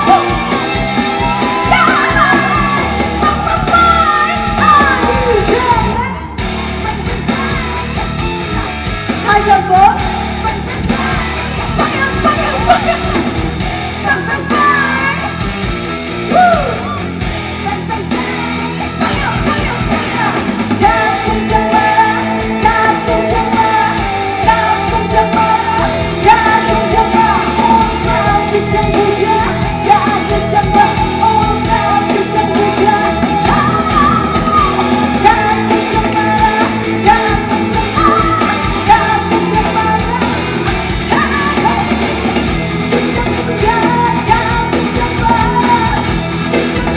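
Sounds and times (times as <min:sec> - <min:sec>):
woman singing lead: 0:00.0 - 0:15.6, 0:16.2 - 0:46.9
live rock band with electric guitar: 0:00.0 - 0:46.9.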